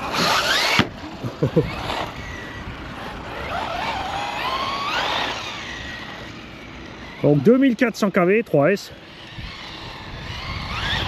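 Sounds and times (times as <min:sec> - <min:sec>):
rc truck motor whine: 0:00.0 - 0:11.0.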